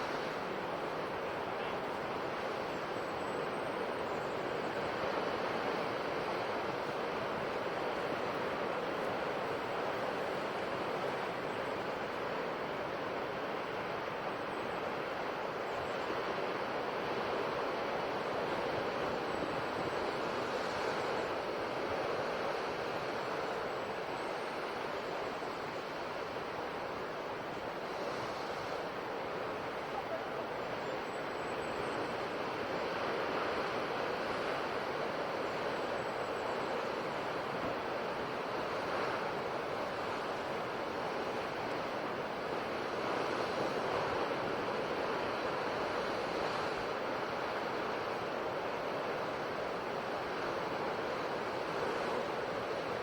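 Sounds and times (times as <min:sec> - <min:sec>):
ocean surf washing onto shore: 0:00.0 - 0:14.3, 0:14.9 - 0:53.0.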